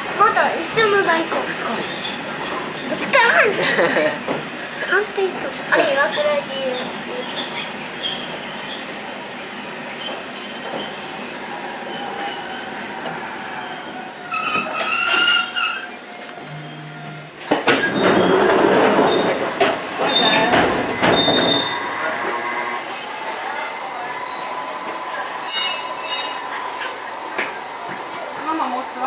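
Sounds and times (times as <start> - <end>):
electric train running on rails: 0.0 - 29.0
train clatter: 0.0 - 29.0
train wheel squeal: 1.5 - 3.4, 5.4 - 29.0.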